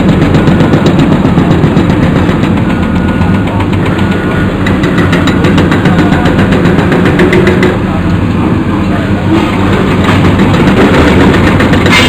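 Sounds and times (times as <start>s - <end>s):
excavator diesel engines running: 0.0s - 12.0s
hydraulic breaker hammers pounding concrete: 0.0s - 12.0s.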